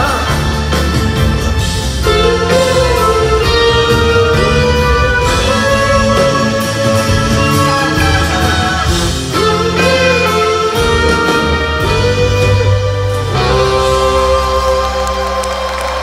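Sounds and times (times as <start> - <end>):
electric lead guitar bending notes: 0.0 - 15.9
drums: 0.0 - 16.0.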